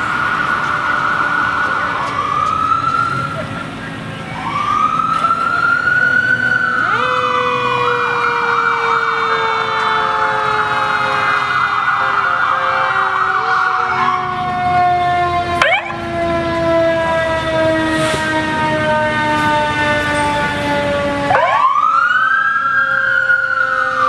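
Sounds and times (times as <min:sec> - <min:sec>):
sirens wailing and yelping: 0:00.0 - 0:24.0
steady siren tone dropping in pitch: 0:00.0 - 0:24.0.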